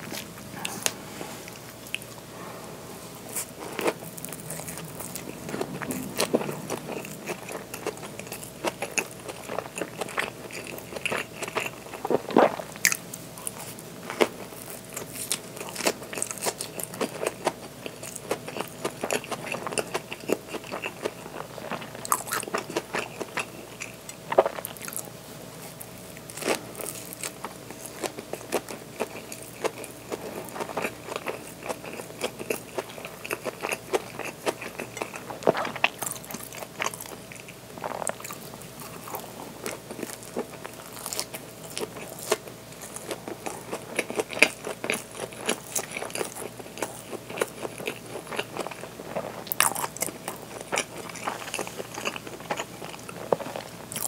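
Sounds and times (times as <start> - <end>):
chewing soft wrap: 3.2 - 54.0.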